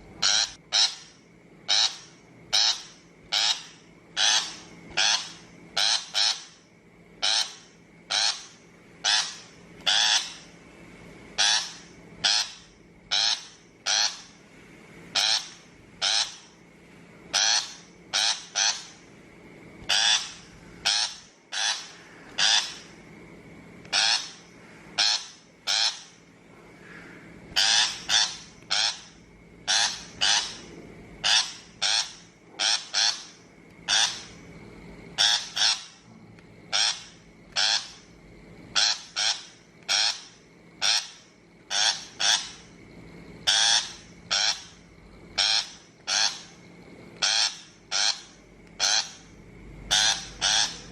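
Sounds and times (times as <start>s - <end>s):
faint steady hum: 0.0s - 50.9s
bird harsh rasping calls: 0.2s - 6.6s, 7.2s - 10.6s, 11.4s - 14.4s, 15.1s - 16.6s, 17.3s - 19.0s, 19.9s - 23.0s, 23.9s - 34.4s, 35.2s - 36.0s, 36.7s - 38.1s, 38.7s - 42.7s, 43.4s - 44.8s, 45.4s - 46.6s, 47.2s - 49.3s, 49.9s - 50.9s.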